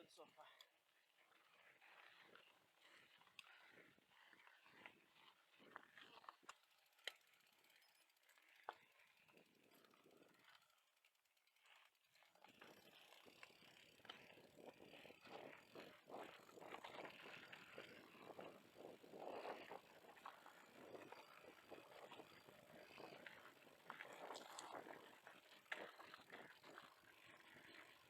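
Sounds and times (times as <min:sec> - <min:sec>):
bicycle freewheel ticking: 0:00.4 - 0:28.0.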